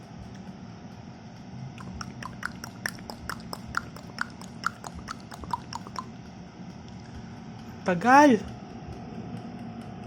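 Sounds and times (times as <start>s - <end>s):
air fryer humming: 0.0s - 10.0s.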